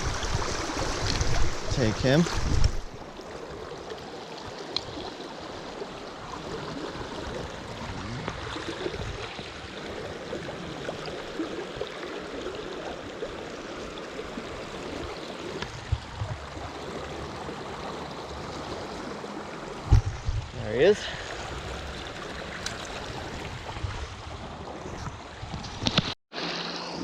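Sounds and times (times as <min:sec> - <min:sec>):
creek water gurgling: 0:00.0 - 0:27.0.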